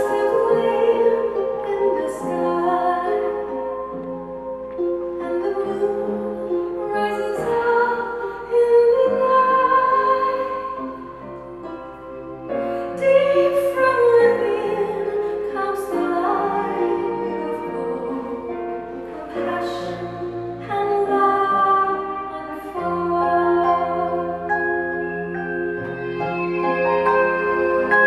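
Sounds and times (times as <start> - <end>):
instrumental accompaniment: 0.0 - 28.0.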